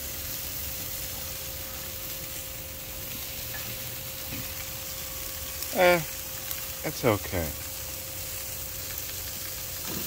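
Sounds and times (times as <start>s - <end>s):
burger patties sizzling on grill: 0.0s - 10.0s.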